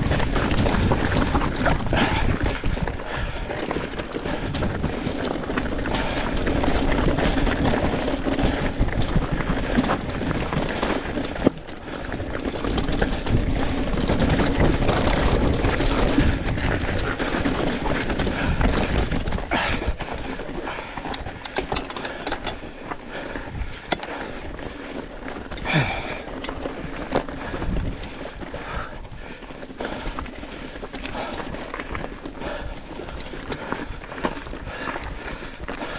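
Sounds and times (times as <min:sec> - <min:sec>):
bike knocking over rocks: 0:00.0 - 0:35.9
bike tyres rolling over gravel: 0:00.0 - 0:35.9.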